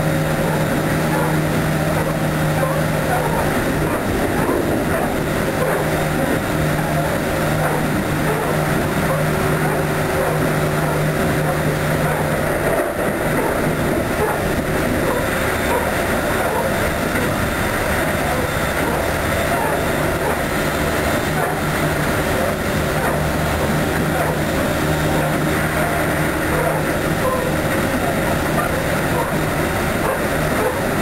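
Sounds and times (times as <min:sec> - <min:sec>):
electric train running at high speed: 0:00.0 - 0:31.0
low steady hum: 0:00.0 - 0:31.0.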